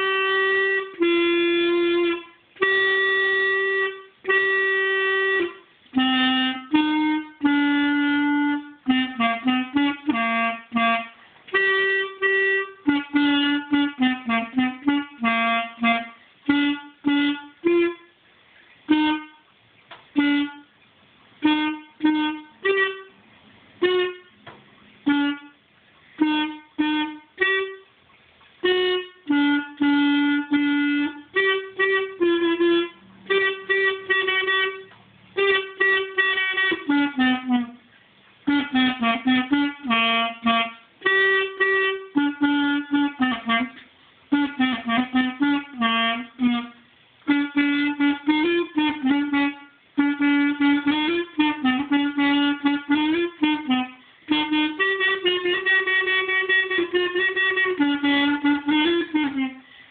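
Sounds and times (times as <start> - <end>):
clarinet playing: 0.0 - 20.8, 21.4 - 59.9.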